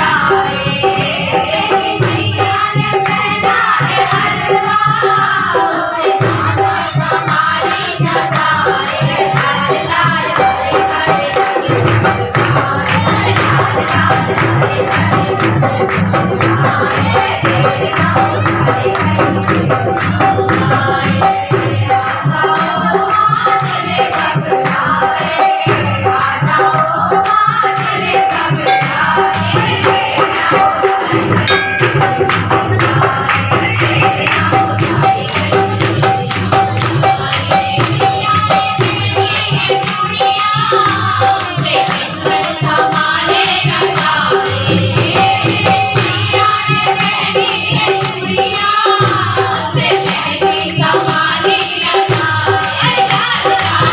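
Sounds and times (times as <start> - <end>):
devotional singing: 0.0 - 53.9
jingling tambourine: 0.0 - 53.9.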